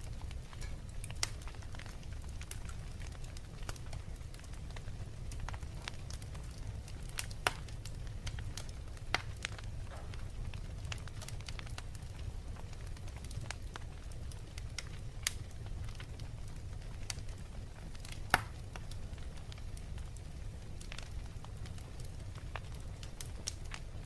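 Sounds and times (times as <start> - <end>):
wood fire crackling: 0.0 - 24.0
pops and snaps of fire: 0.1 - 23.9.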